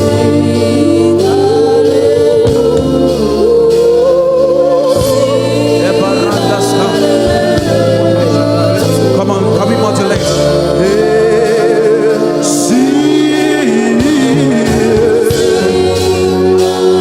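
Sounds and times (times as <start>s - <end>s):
keyboard and bass accompaniment: 0.0s - 17.0s
person singing long notes: 0.0s - 17.0s.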